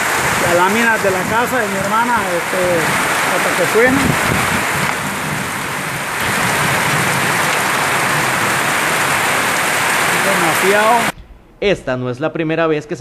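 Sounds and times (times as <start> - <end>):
heavy rain on a metal roof: 0.0 - 11.2
water pouring off eaves: 0.0 - 11.2.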